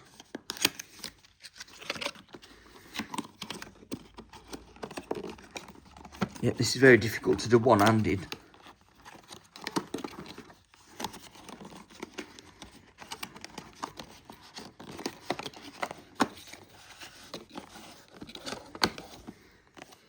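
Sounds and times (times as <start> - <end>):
packaging rustling and crinkling: 0.0 - 20.0.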